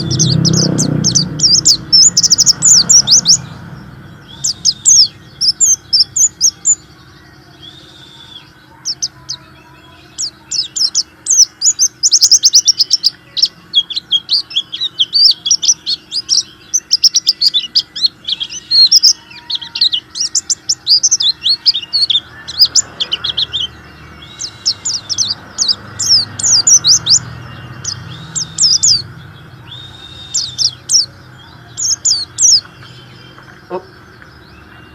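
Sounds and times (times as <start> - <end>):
bird chirping twitters: 0.0 - 34.9.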